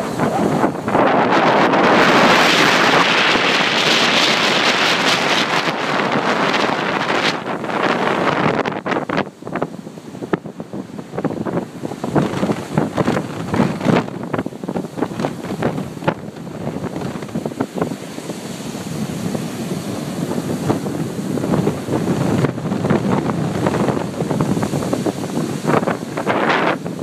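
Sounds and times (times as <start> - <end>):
surf rushing: 0.0 - 27.0
wind buffeting microphone: 0.0 - 27.0.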